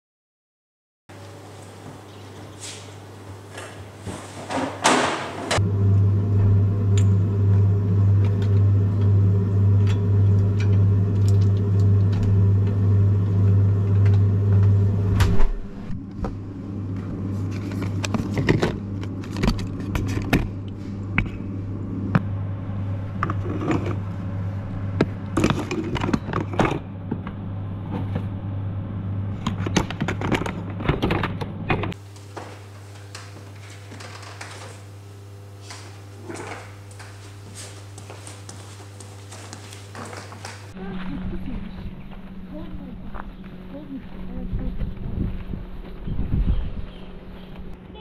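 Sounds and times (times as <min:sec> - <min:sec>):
refrigerator hum: 0:01.1 - 0:48.0.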